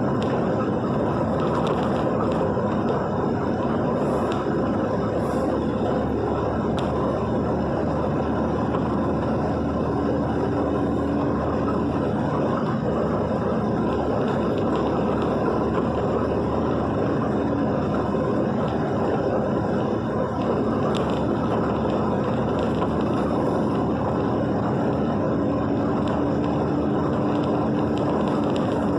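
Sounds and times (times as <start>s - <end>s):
vehicle driving through rain: 0.0s - 28.9s.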